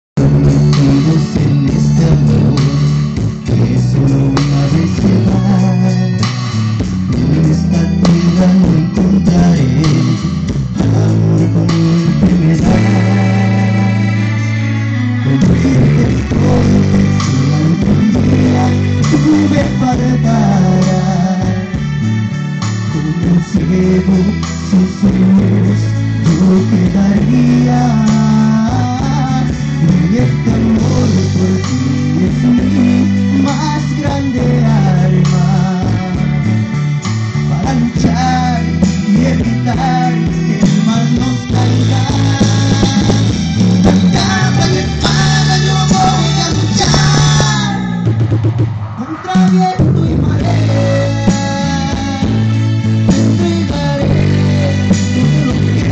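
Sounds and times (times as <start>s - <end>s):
loud amplified backing music: 0.0s - 55.9s
man singing into microphone: 0.2s - 22.0s, 22.8s - 36.6s, 37.4s - 55.9s.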